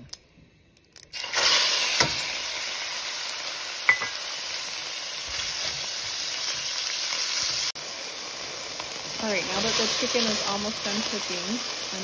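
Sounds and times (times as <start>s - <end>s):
meat sizzling in hot oil: 1.1s - 12.0s.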